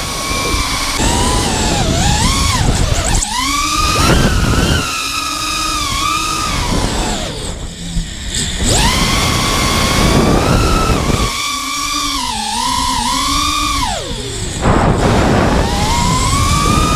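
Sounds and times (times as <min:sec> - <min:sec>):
quadcopter motors whining: 0:00.0 - 0:16.9
rushing prop wash: 0:00.0 - 0:16.9.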